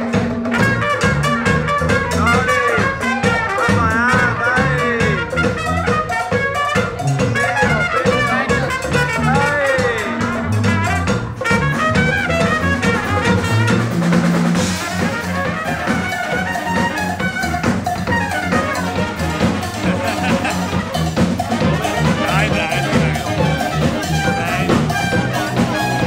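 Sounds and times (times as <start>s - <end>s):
drum kit and percussion: 0.0s - 26.0s
trumpet and saxophones: 0.0s - 26.0s
tuba bass line: 0.0s - 26.0s.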